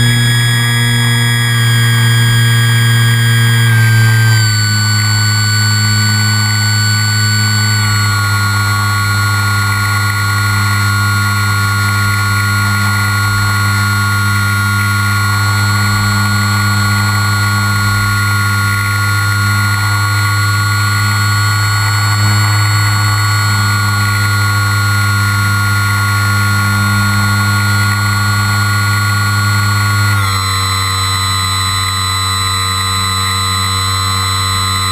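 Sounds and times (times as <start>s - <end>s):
constant low hum: 0.0s - 34.9s
rc aircraft motors whining: 0.0s - 34.9s.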